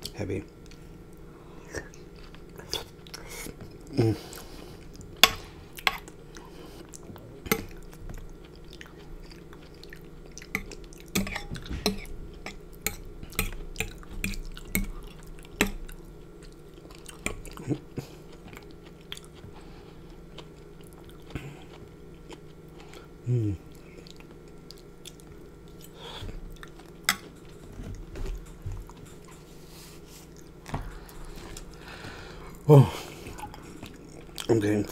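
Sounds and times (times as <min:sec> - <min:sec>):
chewing with wet mouth smacks: 0:01.8 - 0:29.5, 0:32.6 - 0:34.9.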